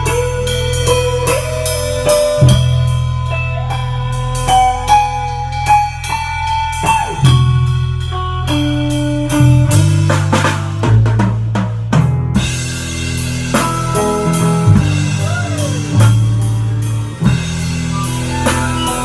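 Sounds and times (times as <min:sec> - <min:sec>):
electric guitar lead notes: 0:00.0 - 0:11.2, 0:11.9 - 0:19.0
bass line: 0:00.0 - 0:19.0
drum kit beat: 0:00.0 - 0:19.0.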